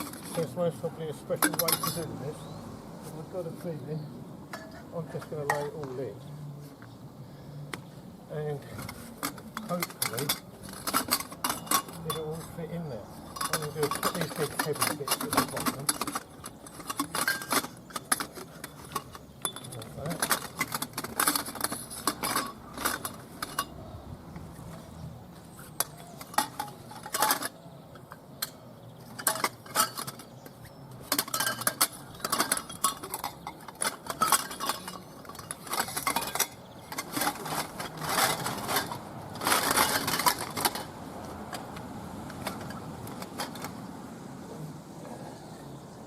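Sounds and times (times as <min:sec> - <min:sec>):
hard parts knocking and clinking: 0:00.0 - 0:02.5, 0:04.5 - 0:06.1, 0:07.8 - 0:24.9, 0:25.5 - 0:43.8.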